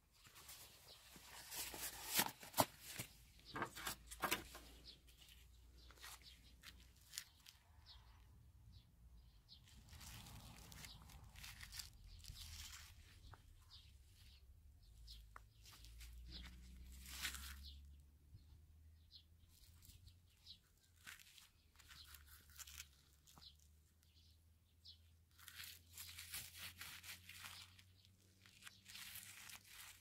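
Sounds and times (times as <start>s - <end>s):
rubber glove rustling: 0.0s - 8.1s, 9.2s - 17.7s, 19.5s - 24.2s, 25.2s - 30.0s.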